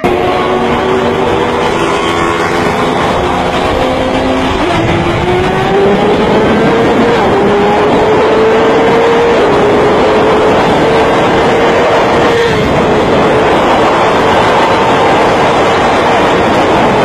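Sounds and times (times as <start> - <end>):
motorbike engine revving: 0.0 - 17.0
wind rush: 0.0 - 17.0.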